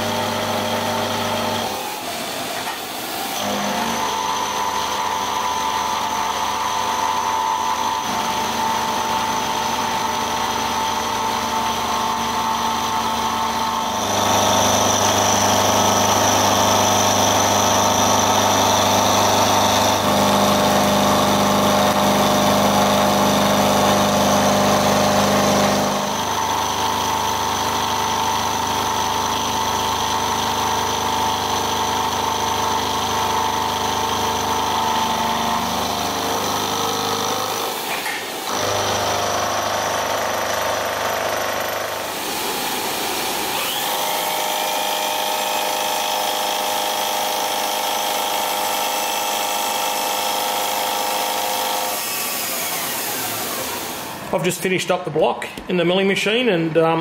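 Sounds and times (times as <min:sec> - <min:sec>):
milling machine cutting metal: 0:00.0 - 0:54.5.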